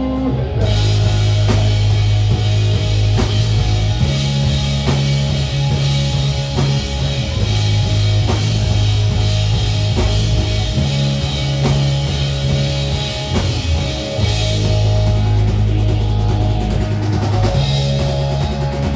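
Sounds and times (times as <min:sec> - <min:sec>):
drum kit hits: 0:00.0 - 0:18.9
rock band playing: 0:00.0 - 0:18.9.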